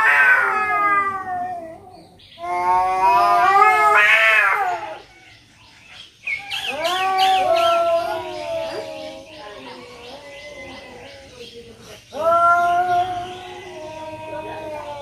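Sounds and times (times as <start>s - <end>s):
cats yowling: 0.0s - 5.3s, 6.3s - 15.0s.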